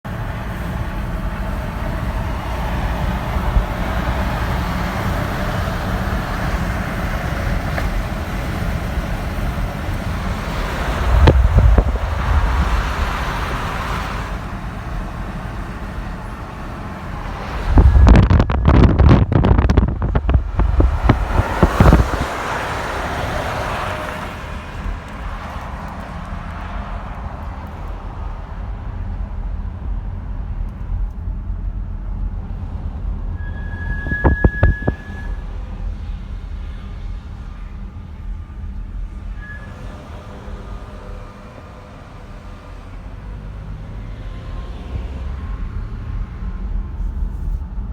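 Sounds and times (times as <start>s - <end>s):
braking rumble with fast clicking: 0.0s - 47.9s
vehicle road noise: 0.0s - 47.9s.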